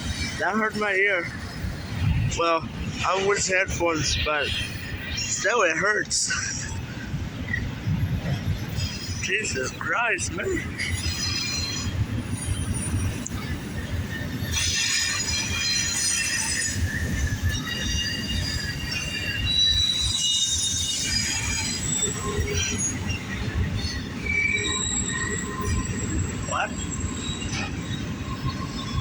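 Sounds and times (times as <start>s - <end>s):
low rumble of train cars: 0.0s - 29.0s
train wheels squealing on rails: 0.0s - 29.0s.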